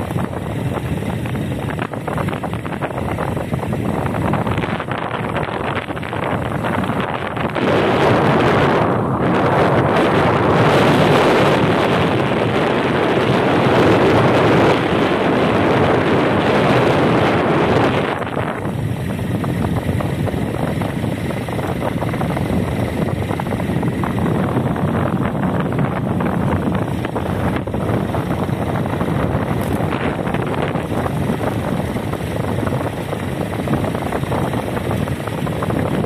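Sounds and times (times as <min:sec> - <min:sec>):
road noise: 0:00.0 - 0:36.0
wind buffeting microphone: 0:00.0 - 0:36.0.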